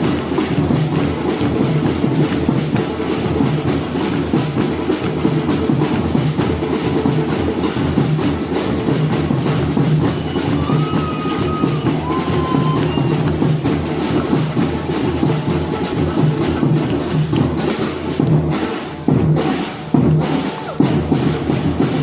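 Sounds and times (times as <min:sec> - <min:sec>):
deep drums: 0:00.0 - 0:22.0
samba percussion ensemble: 0:00.0 - 0:22.0.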